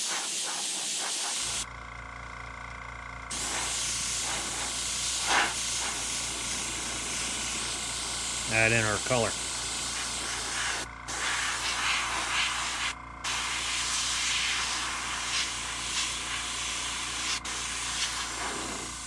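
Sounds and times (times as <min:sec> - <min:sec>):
airbrush air hiss: 0:00.0 - 0:01.6, 0:03.3 - 0:19.0.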